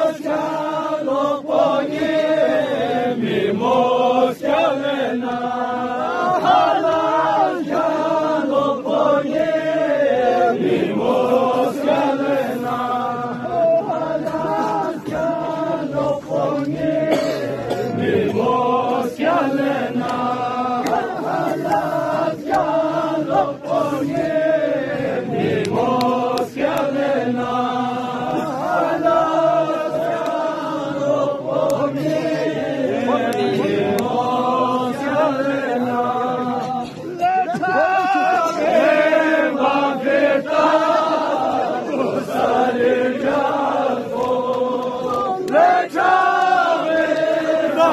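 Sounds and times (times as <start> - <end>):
group chanting a mourning lament: 0.0 - 47.9.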